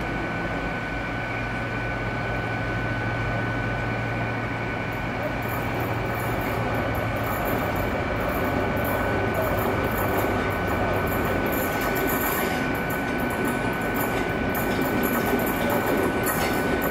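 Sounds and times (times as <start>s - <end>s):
train diesel engine humming: 0.0s - 16.9s.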